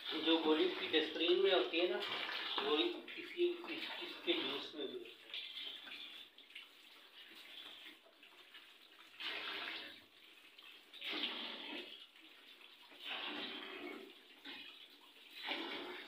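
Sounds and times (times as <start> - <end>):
tap water splashing: 0.0 - 16.0.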